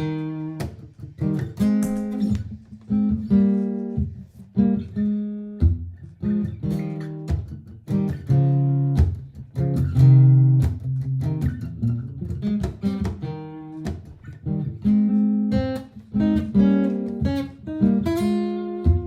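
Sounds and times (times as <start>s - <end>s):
acoustic guitar strummed and picked: 0.0s - 19.0s
looped guitar part: 0.0s - 19.0s.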